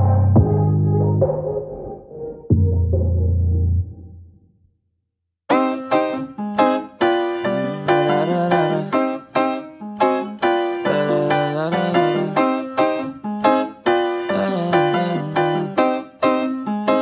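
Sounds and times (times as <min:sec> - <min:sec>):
keyboard music with chords: 0:00.0 - 0:04.2, 0:05.5 - 0:17.0.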